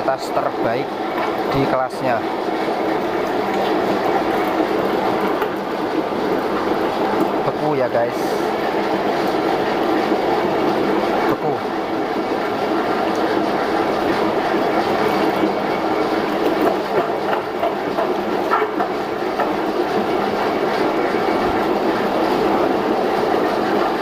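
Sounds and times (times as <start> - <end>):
meat machine running: 0.0 - 24.0.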